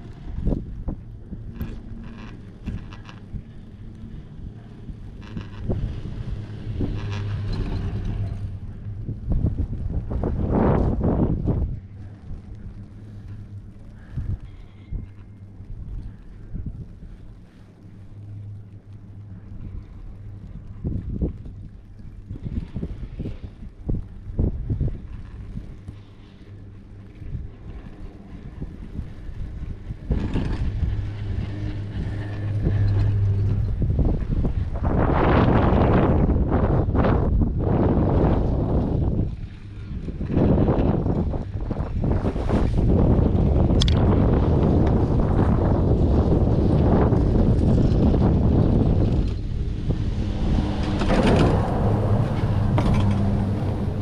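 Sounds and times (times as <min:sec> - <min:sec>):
chairlift low hum: 0:00.0 - 0:54.0
wind buffeting microphone: 0:00.0 - 0:54.0.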